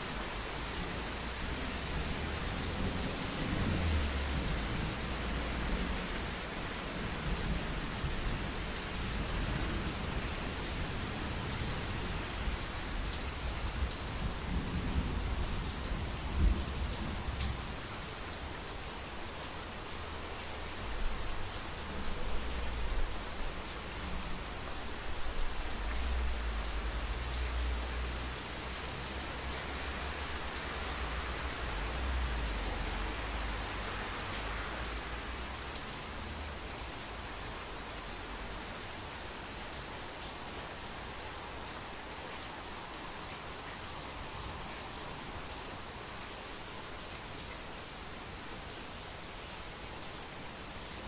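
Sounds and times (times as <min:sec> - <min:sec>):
heavy rain: 0:00.0 - 0:51.0.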